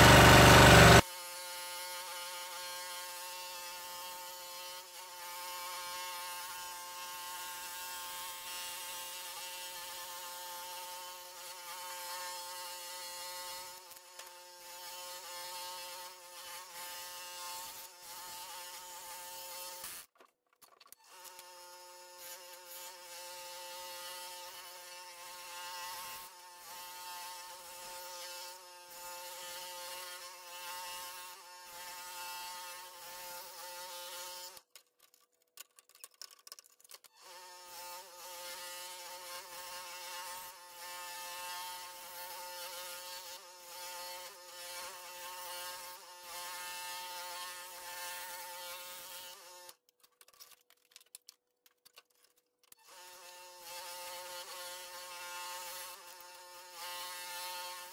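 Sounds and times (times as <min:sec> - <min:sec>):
scroll saw cutting wood: 0:00.0 - 0:20.2, 0:20.8 - 0:35.2, 0:35.8 - 0:50.5, 0:52.0 - 0:57.9.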